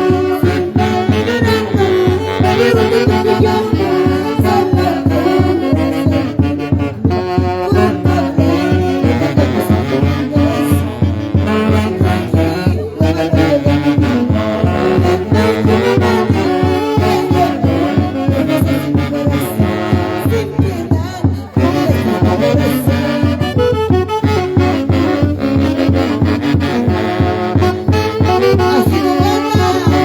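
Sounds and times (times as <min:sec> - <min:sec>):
horn section playing melody: 0:00.0 - 0:30.0.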